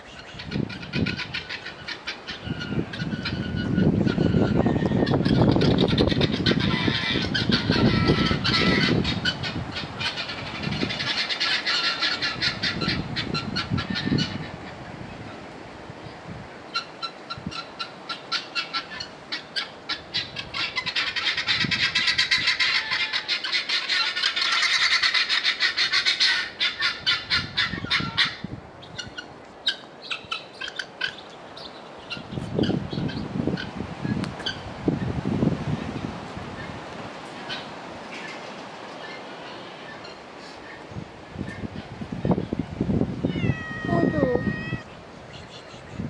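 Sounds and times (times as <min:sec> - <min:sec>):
birds calling: 0:00.0 - 0:15.4, 0:16.0 - 0:35.2, 0:36.0 - 0:46.0.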